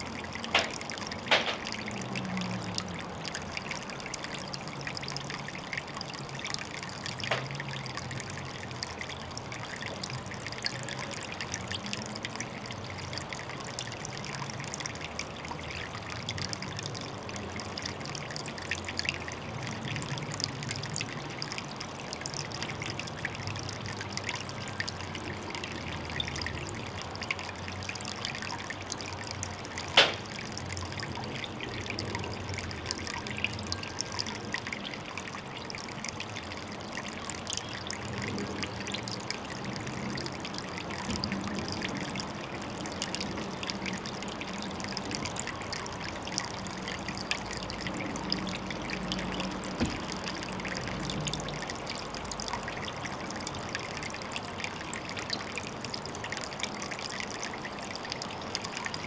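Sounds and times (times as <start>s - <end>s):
water trickling into a pond: 0.0s - 59.0s.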